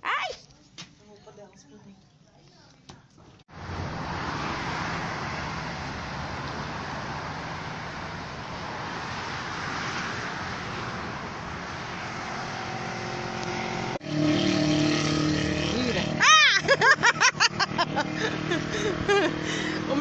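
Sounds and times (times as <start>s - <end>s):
rushing road traffic noise: 3.4s - 20.0s.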